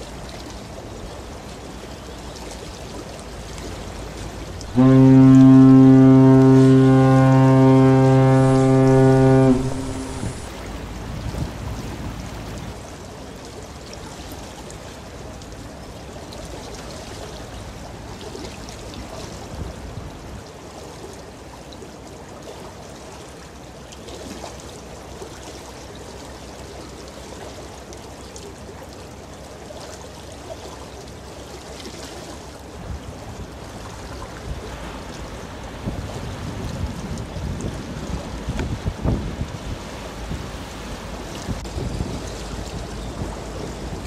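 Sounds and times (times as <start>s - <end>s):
water sloshing against riverbank: 0.0s - 44.0s.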